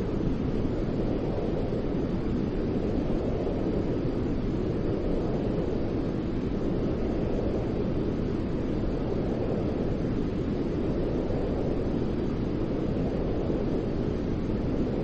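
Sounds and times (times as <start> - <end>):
deep white noise: 0.0 - 15.0.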